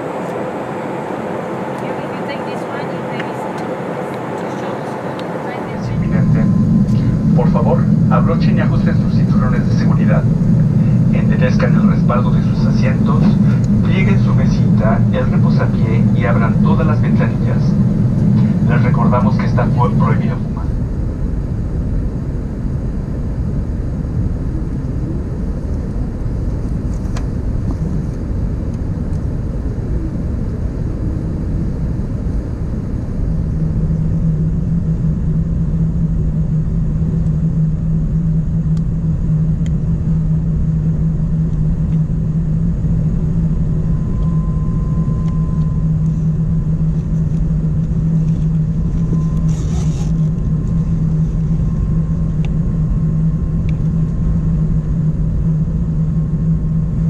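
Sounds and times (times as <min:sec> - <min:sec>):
air rushing past aircraft: 0:00.0 - 0:57.0
aircraft engines rumbling: 0:00.0 - 0:57.0
low hum: 0:00.0 - 0:57.0.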